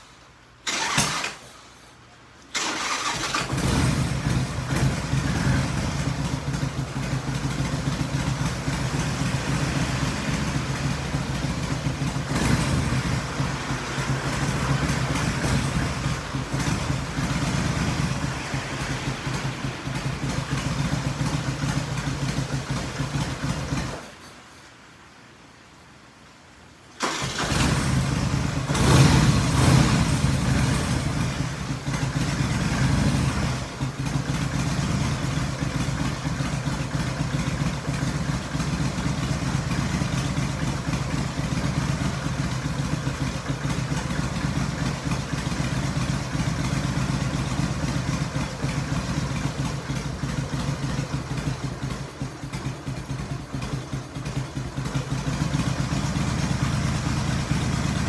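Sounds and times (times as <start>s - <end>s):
motorcycle engine revving and idling: 0.7s - 1.3s, 2.6s - 24.2s, 27.0s - 58.0s.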